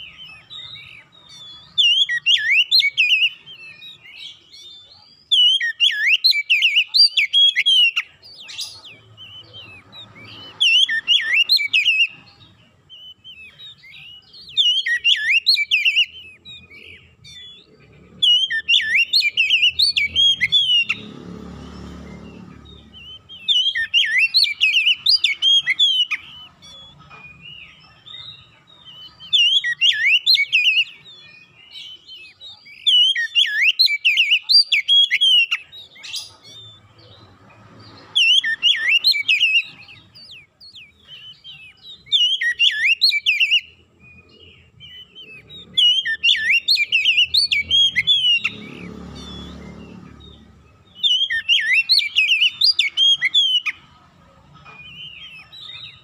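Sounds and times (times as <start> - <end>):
bird singing whistled phrases: 0.0 - 21.1, 22.1 - 37.2, 37.8 - 53.9.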